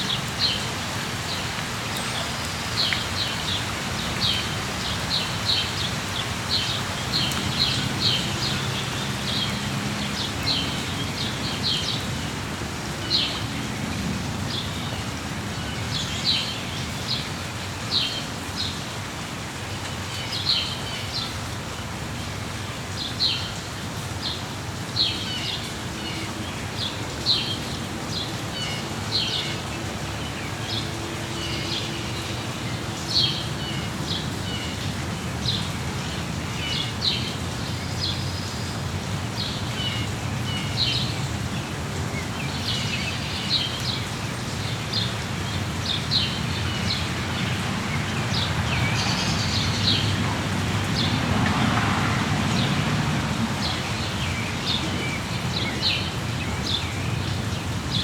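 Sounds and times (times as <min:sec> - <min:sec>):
songbirds chirping: 0:00.0 - 0:18.9, 0:19.5 - 0:58.0
rain falling: 0:00.0 - 0:58.0.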